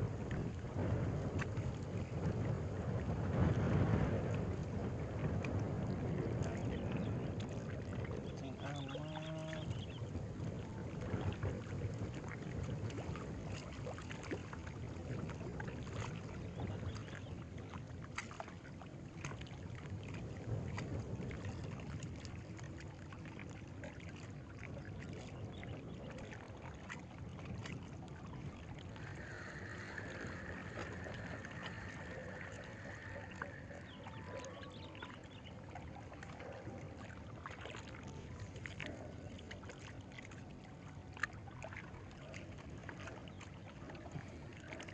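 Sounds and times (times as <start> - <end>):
low rumble of wind and water: 0.0 - 44.9.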